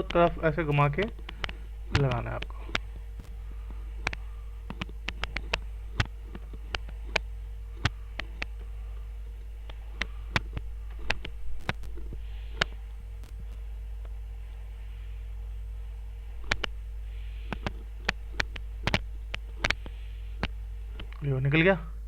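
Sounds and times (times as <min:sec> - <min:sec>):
sharp clicks: 0:00.0 - 0:14.2, 0:16.3 - 0:16.8, 0:17.4 - 0:21.3
hot air station blowing: 0:00.0 - 0:22.0
low steady hum: 0:00.0 - 0:22.0.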